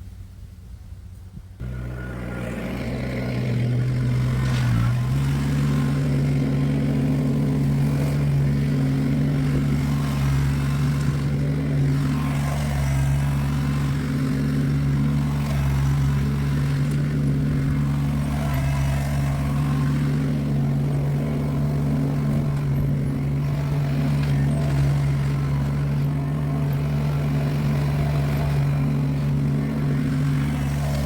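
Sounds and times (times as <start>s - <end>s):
engine revving up: 1.6s - 31.0s.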